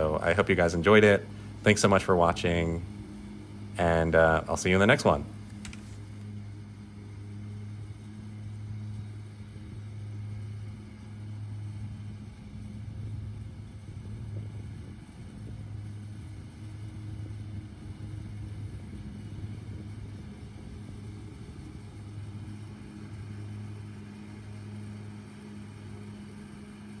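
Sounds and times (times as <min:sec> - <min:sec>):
riding mower engine humming: 0:00.0 - 0:27.0.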